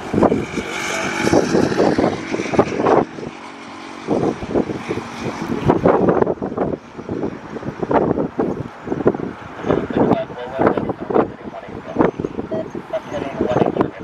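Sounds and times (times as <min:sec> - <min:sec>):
jet engine noise: 0:00.0 - 0:14.0
wind buffeting: 0:00.0 - 0:14.0.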